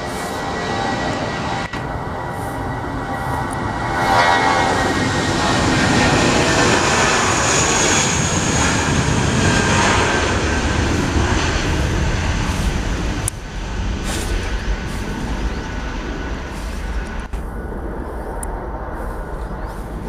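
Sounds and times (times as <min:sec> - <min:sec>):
jet airliner engines passing: 0:00.0 - 0:20.0.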